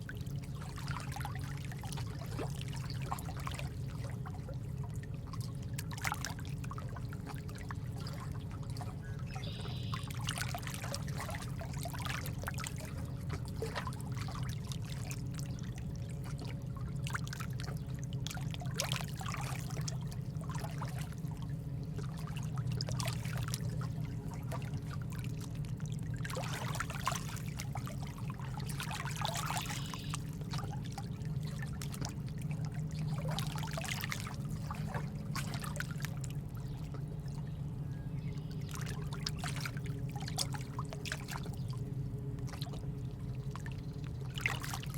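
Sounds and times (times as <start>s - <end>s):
steady low hum: 0.0s - 44.9s
water trickling and splashing: 0.0s - 44.9s.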